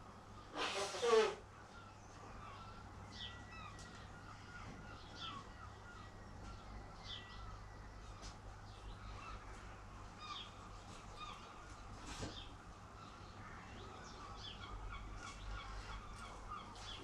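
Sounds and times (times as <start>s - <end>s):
birds calling: 0.0s - 17.0s
steady low hum: 1.4s - 17.0s.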